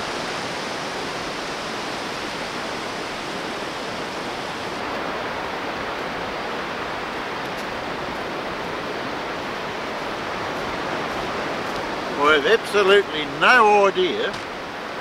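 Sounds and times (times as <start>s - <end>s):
surf breaking on a sandy beach: 0.0s - 15.0s.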